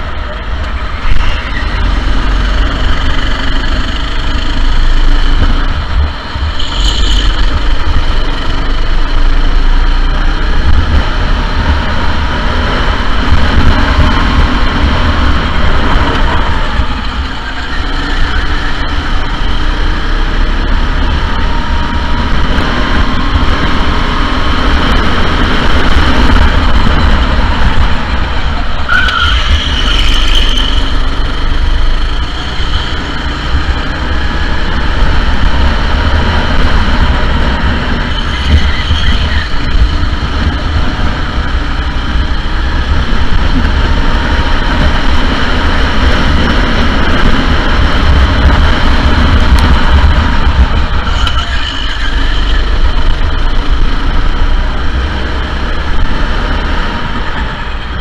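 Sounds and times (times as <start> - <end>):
go-kart engine running hard: 0.0 - 58.0.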